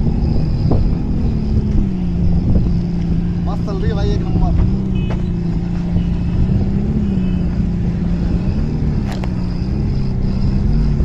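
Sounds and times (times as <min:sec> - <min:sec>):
heavy low rumble: 0:00.0 - 0:11.0
vehicle engine drone: 0:00.0 - 0:11.0.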